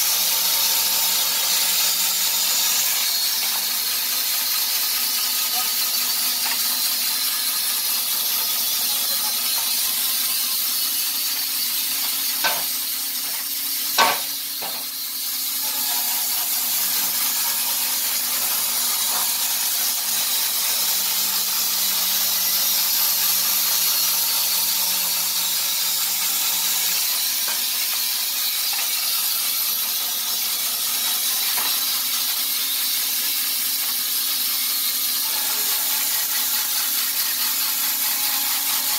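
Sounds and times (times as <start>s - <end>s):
bandsaw mill running: 0.0s - 38.9s.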